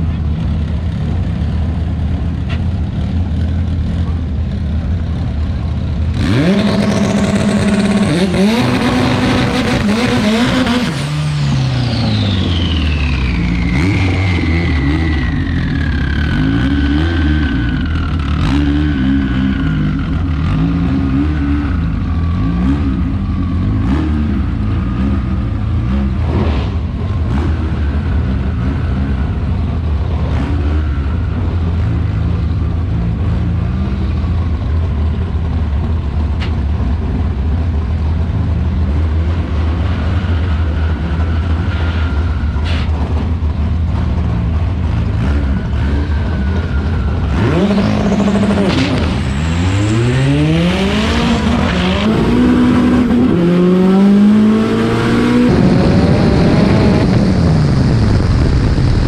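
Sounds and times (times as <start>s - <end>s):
car engine running at low revs: 0.0s - 59.0s.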